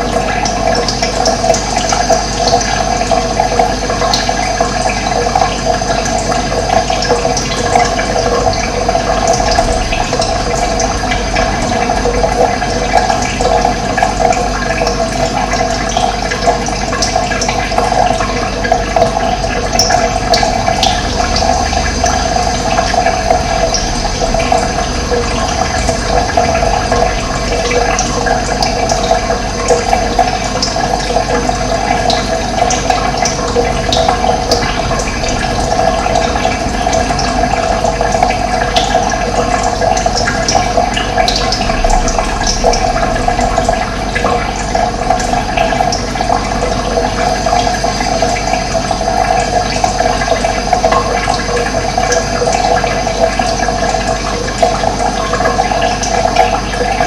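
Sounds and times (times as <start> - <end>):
running water flowing: 0.0 - 57.0.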